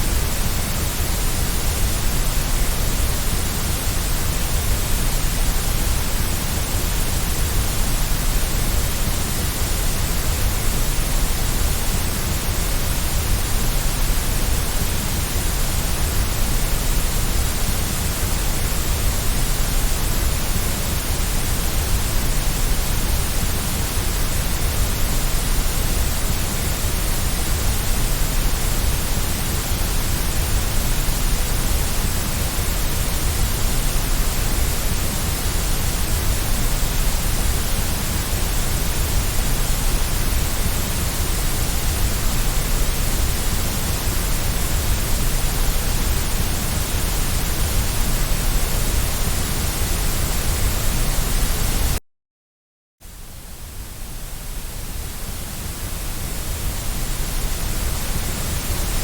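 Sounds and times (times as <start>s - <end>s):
steady white noise hiss: 0.0s - 52.0s, 53.0s - 59.0s.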